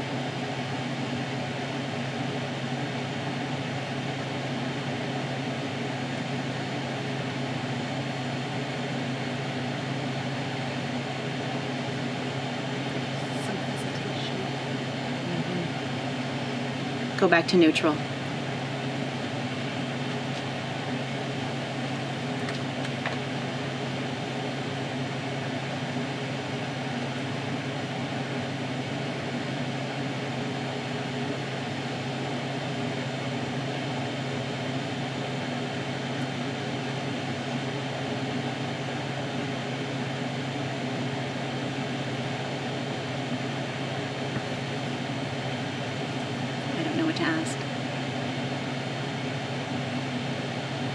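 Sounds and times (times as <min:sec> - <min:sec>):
steady machine hum: 0:00.0 - 0:50.9.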